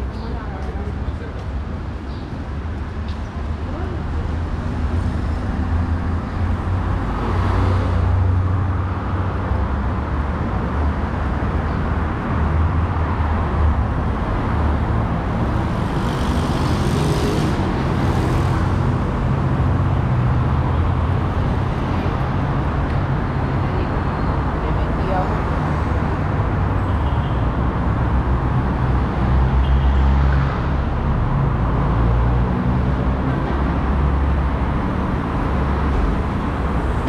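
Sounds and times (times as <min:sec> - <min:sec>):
car engines and tyres rumbling: 0:00.0 - 0:37.0.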